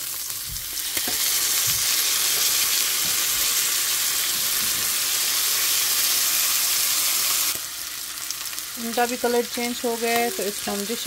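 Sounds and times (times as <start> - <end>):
steaks sizzling in frying pan: 0.0 - 11.0.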